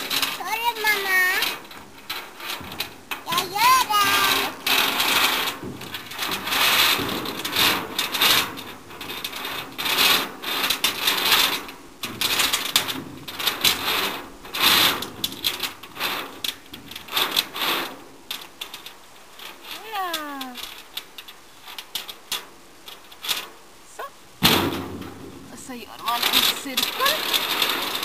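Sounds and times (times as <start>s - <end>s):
toy vehicle rattling and scraping: 0.0s - 23.7s, 24.4s - 28.0s.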